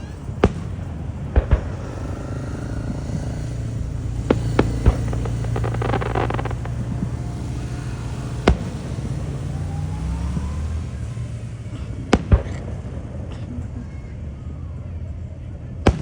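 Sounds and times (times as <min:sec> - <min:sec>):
fireworks bangs: 0:00.0 - 0:15.0, 0:15.8 - 0:16.0
fireworks crackling: 0:00.0 - 0:16.0
steady low rumble: 0:00.0 - 0:16.0.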